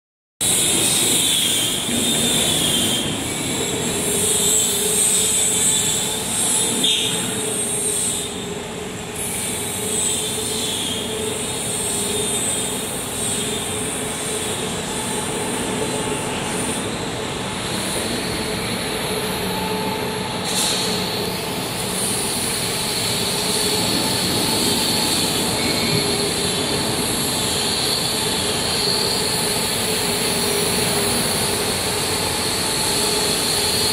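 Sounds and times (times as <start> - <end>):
high-pitched machine whines: 0.4 - 33.9
mechanical drone: 0.4 - 33.9.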